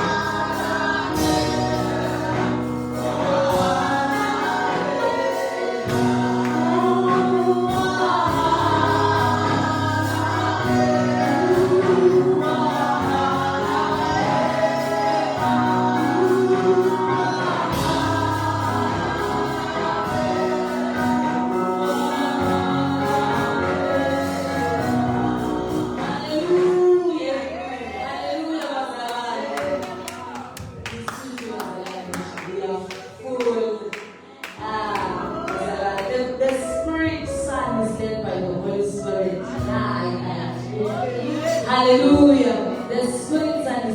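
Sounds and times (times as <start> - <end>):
gospel choir singing: 0.0 - 43.9.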